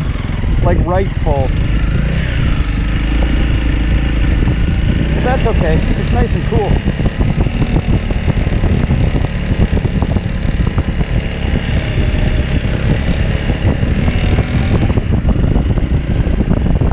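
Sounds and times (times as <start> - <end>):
engine rumbling: 0.0 - 16.9.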